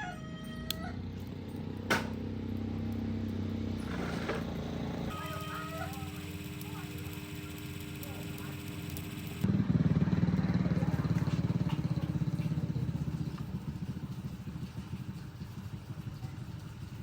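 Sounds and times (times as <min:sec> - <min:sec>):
small engine running: 0:01.0 - 0:17.0.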